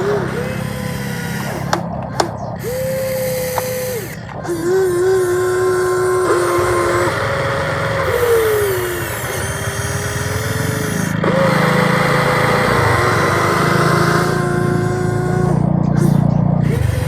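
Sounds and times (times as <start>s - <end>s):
electric motor and hydraulic pump whine: 0.0s - 17.0s.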